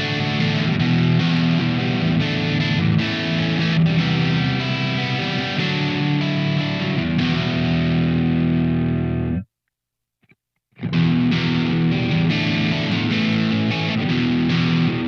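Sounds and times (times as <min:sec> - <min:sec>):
distorted electric guitar chords: 0:00.0 - 0:09.5, 0:10.8 - 0:15.0.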